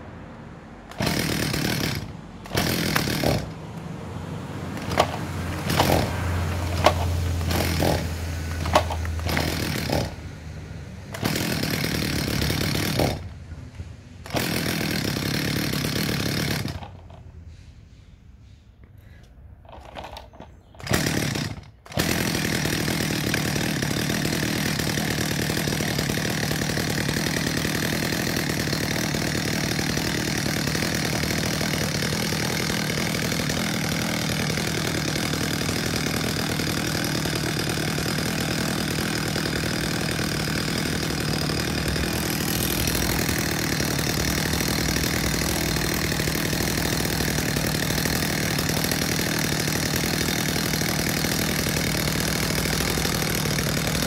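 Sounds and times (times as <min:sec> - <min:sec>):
chainsaw idling: 0:00.0 - 0:17.7, 0:18.9 - 0:54.0.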